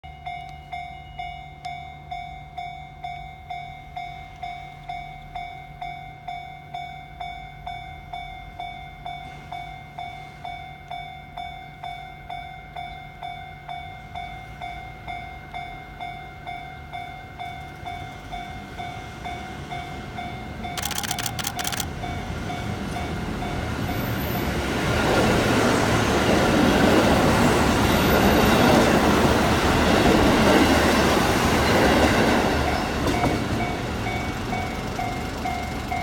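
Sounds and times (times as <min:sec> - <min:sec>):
diesel railcar running: 0:00.0 - 0:36.0.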